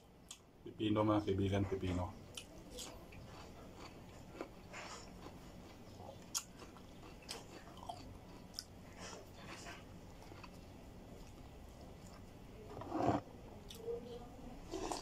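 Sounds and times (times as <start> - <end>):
person chewing food: 1.8 - 13.8, 14.7 - 15.0.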